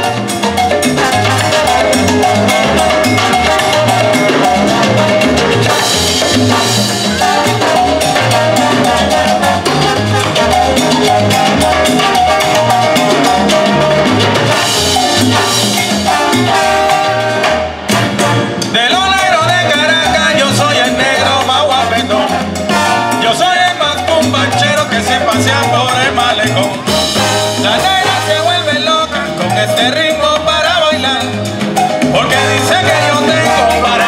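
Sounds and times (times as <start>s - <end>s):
man singing: 0.0s - 5.6s, 7.2s - 13.9s, 18.7s - 34.0s
bass line: 0.0s - 34.0s
congas and timbales: 0.0s - 34.0s
trombones and trumpet: 0.0s - 34.0s.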